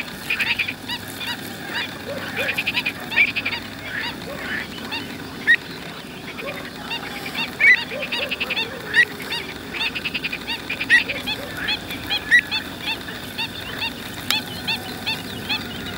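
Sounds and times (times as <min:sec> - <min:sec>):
birds calling: 0:00.0 - 0:15.9.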